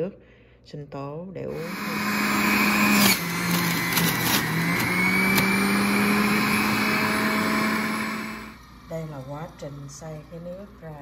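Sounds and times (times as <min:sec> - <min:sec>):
juicer motor hum and whine: 0:01.5 - 0:11.0.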